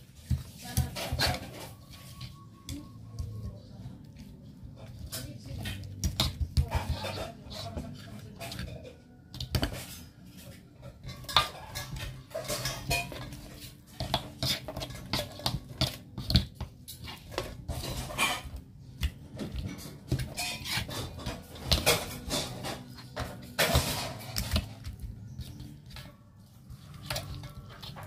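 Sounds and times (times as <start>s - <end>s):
metal spoon scraping a pan: 0.0s - 3.4s, 4.1s - 28.0s.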